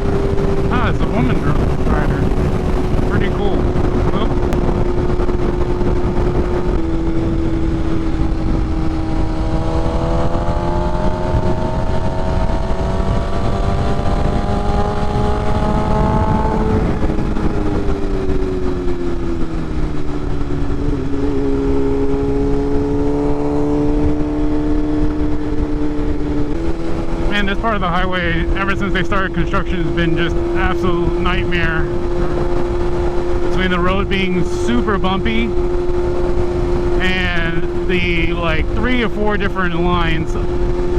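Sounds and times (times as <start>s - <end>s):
motorcycle engine at speed: 0.0s - 40.9s
road rumble: 0.0s - 40.9s
wind noise: 0.0s - 40.9s.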